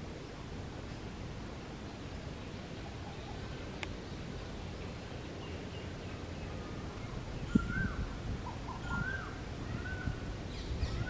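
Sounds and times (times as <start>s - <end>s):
low outdoor rumble: 0.0s - 11.0s
bird calls: 2.0s - 11.0s.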